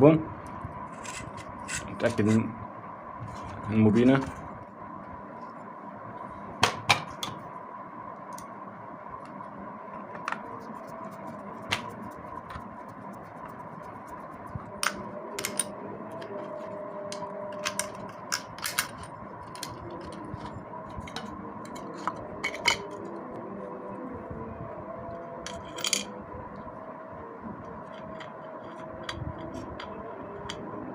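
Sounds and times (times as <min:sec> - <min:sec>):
steady background hum: 0:00.0 - 0:30.9.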